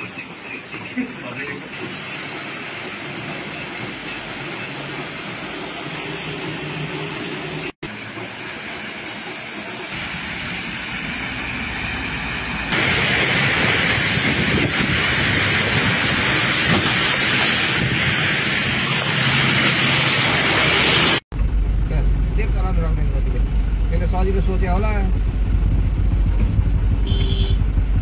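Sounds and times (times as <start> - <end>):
vehicle driving on wet road: 0.0 - 28.0.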